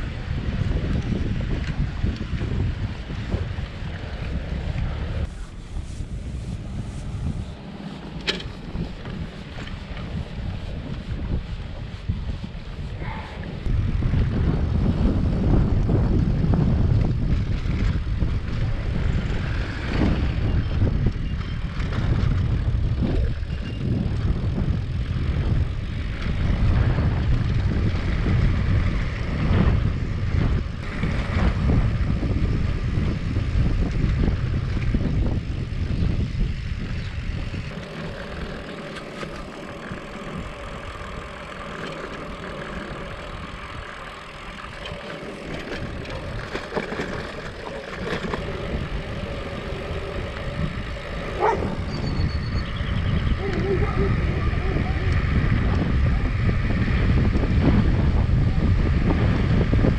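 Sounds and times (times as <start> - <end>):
bicycle tyre rumble on road: 0.0 - 59.9
wind buffeting microphone: 0.0 - 59.9.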